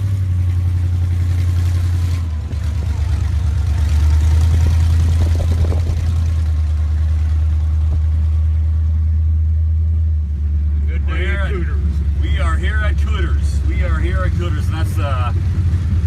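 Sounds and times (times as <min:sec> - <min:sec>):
truck engine deep drone: 0:00.0 - 0:16.0.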